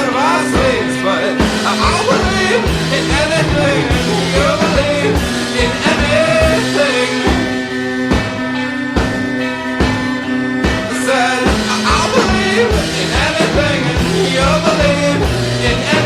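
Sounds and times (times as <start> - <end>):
person singing: 0.0 - 7.9, 10.8 - 16.0
indie rock song: 0.0 - 16.0.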